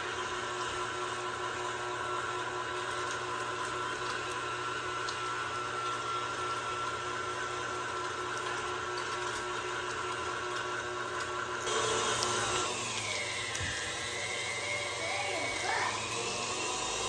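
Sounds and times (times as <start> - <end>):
stand mixer motor whining: 0.0 - 17.0.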